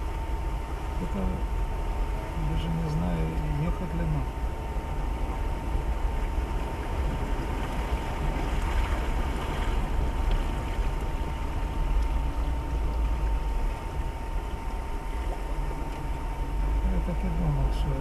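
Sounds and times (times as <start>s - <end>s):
car engine and cabin rumble: 0.0s - 18.0s
thin steady whine: 0.0s - 18.0s.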